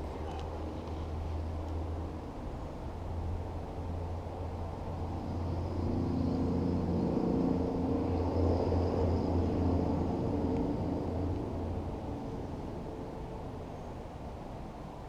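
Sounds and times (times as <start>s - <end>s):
passing motor vehicle engine: 0.0s - 14.3s
steady low hum: 0.0s - 15.0s.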